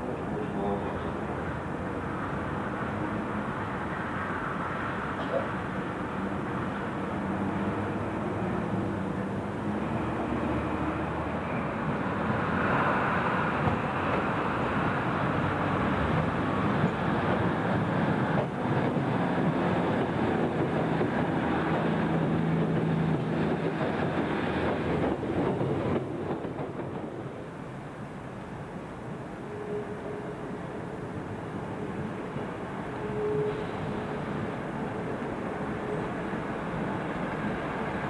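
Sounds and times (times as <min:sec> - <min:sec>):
electric train drawing in: 0:00.0 - 0:38.0
train wheels on rails: 0:00.0 - 0:38.0.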